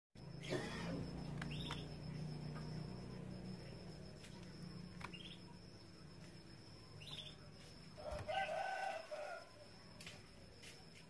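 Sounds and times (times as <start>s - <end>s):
canaries chirping: 0.4s - 9.4s.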